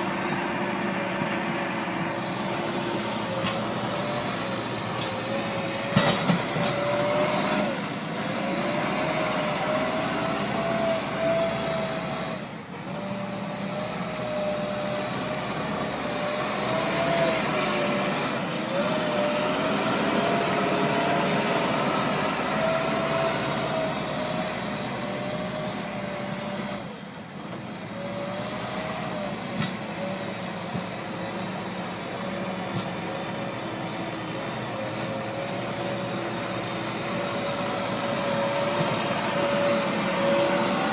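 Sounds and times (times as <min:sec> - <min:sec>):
backhoe loader drone and whine: 0:00.0 - 0:40.9.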